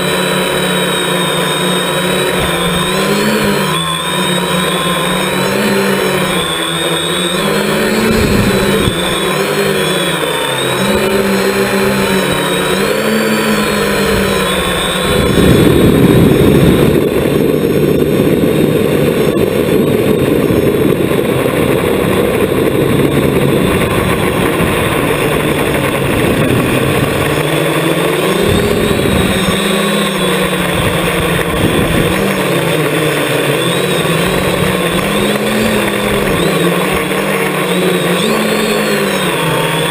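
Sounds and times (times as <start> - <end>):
drone motors buzzing: 0.0 - 39.9
loud rushing noise: 0.0 - 39.9.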